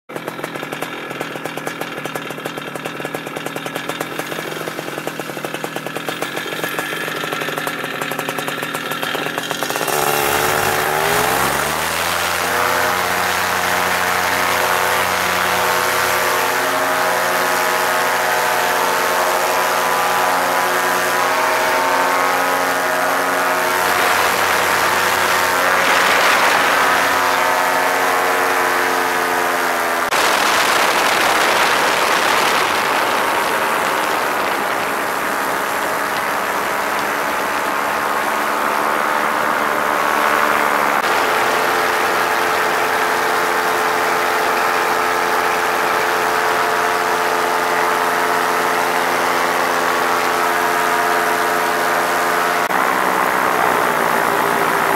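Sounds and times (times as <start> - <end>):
paramotor engine and propeller: 0.0 - 54.9.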